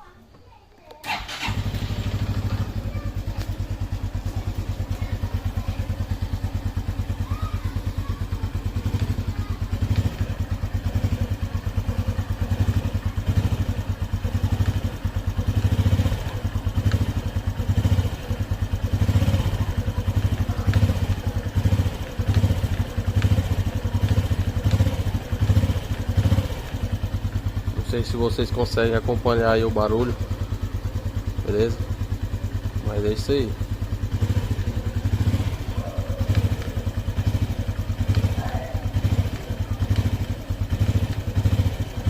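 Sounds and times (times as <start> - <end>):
motorcycle engine idling: 0.0 - 42.0
faint engine ticks: 0.2 - 42.0.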